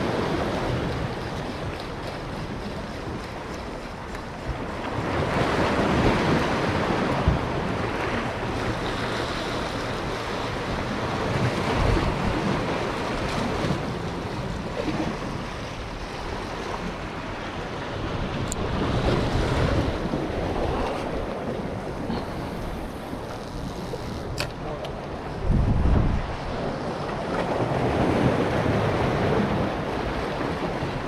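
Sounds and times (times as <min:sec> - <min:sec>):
sea waves washing: 0:00.0 - 0:31.0
wind buffeting microphone: 0:00.0 - 0:31.0.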